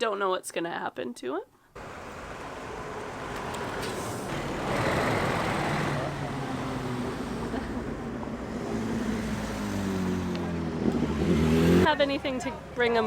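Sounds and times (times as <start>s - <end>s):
vehicle passing close: 1.8s - 12.3s.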